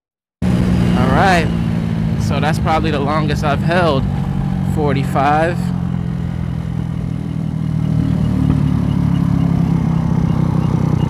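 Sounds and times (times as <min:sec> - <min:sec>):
scooter engine at low throttle: 0:00.4 - 0:11.0.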